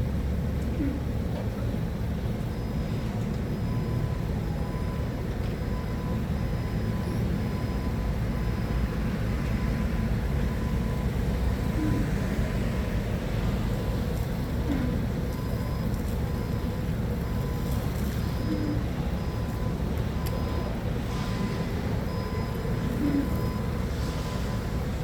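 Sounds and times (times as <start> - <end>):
forklift engine rumbling: 0.0 - 25.0.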